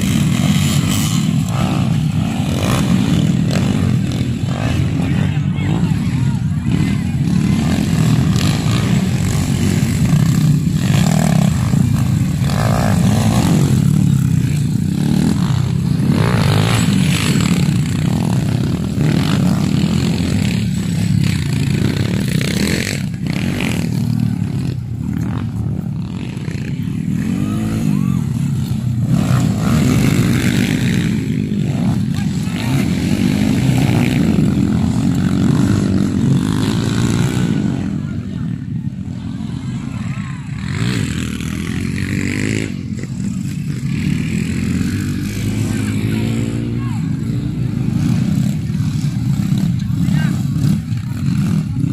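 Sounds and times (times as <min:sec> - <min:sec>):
dirt bike engines racing: 0:00.0 - 0:51.9.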